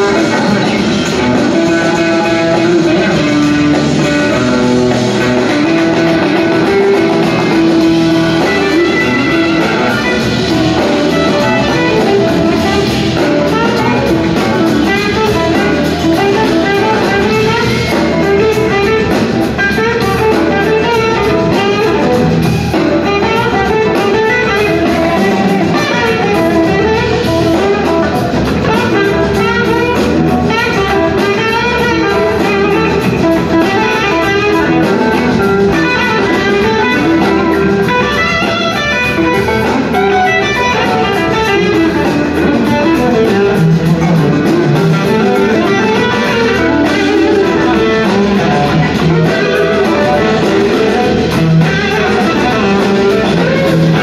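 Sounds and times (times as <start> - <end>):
blues rock band playing: 0.0 - 54.0.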